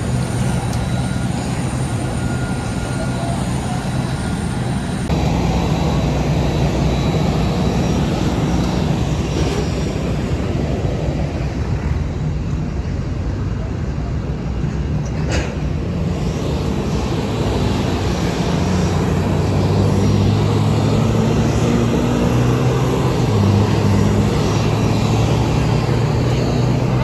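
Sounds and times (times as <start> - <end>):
airliner low rumble: 0.0 - 27.0.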